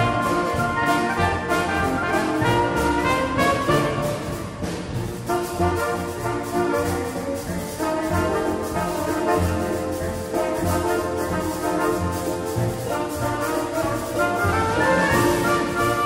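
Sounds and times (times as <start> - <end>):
bass line: 0.0 - 16.0
horn section playing chords: 0.0 - 16.0.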